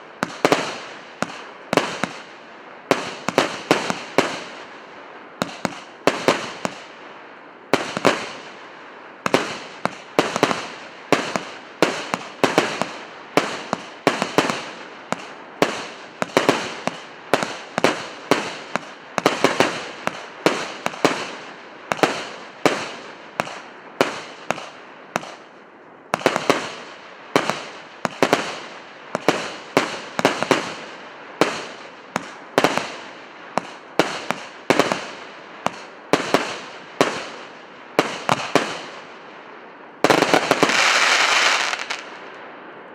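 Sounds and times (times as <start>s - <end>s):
fireworks banging: 0.0s - 4.6s, 5.4s - 6.9s, 7.7s - 8.5s, 9.2s - 25.5s, 26.2s - 39.1s, 40.0s - 42.3s.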